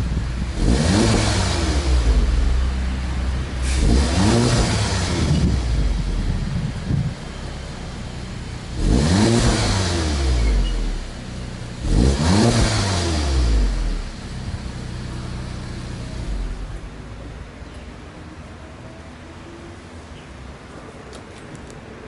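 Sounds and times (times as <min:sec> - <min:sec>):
car engine idling and revving: 0:00.0 - 0:18.1.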